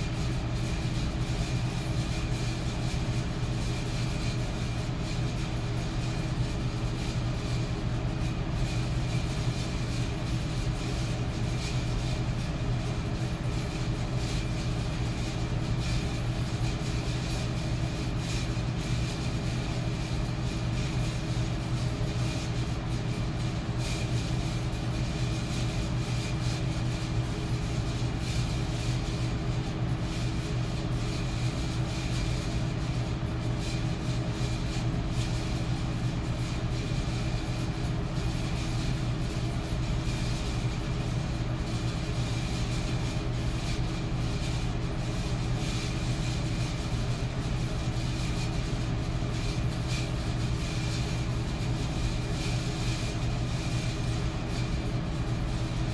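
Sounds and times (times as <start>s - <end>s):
electric fan running: 0.0s - 55.9s.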